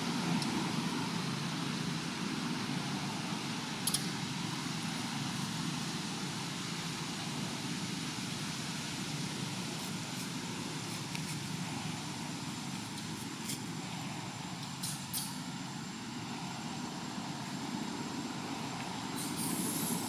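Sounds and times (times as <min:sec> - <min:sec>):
outdoor background hum: 0:00.0 - 0:20.0.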